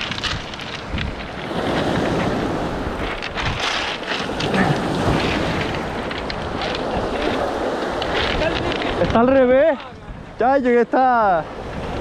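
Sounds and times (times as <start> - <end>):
surf on pebble beach: 0.0 - 12.0
wind buffeting microphone: 0.0 - 12.0.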